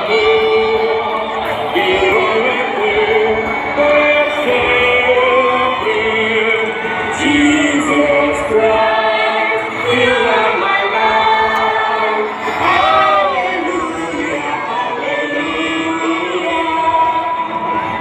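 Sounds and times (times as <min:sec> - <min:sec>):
crowd singing together: 0:00.0 - 0:18.0.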